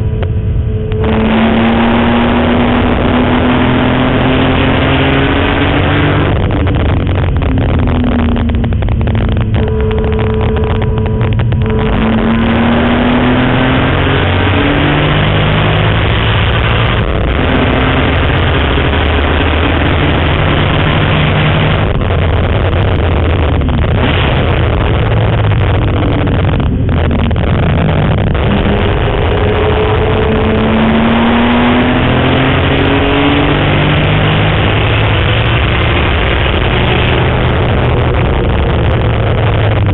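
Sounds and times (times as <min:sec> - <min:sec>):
race car engine revving: 0:00.0 - 0:39.9
road and wind noise: 0:00.0 - 0:39.9.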